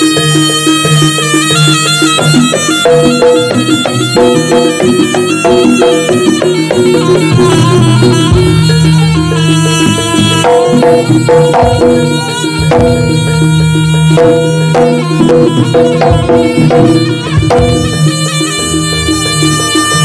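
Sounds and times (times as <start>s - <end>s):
gamelan percussion: 0.0s - 20.0s
hand drums: 0.0s - 20.0s
shawm playing melody: 0.0s - 20.0s.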